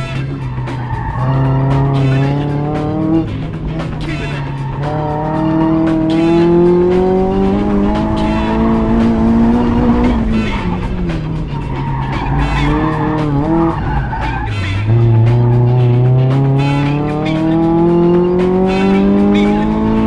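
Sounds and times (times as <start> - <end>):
car engine revving: 0.0 - 20.0
funk music with steady beat: 0.0 - 20.0.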